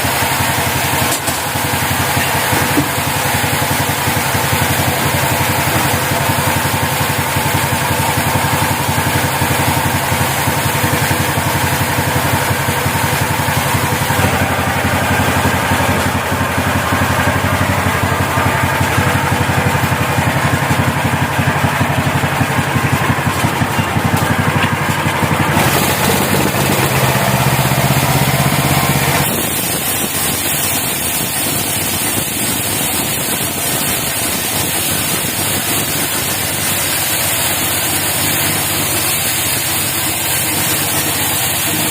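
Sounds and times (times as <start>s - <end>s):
sawmill engine running: 0.0s - 41.9s.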